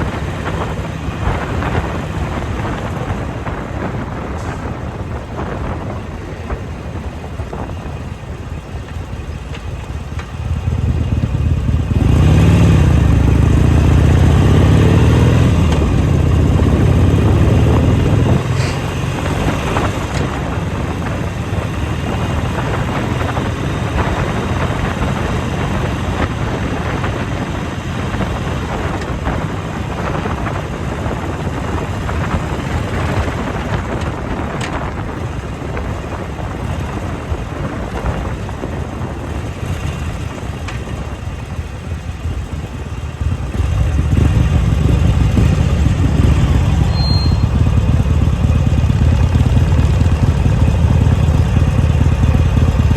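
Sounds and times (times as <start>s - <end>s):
wind and road noise: 0.0s - 52.9s
motorcycle engine revving: 9.8s - 52.9s.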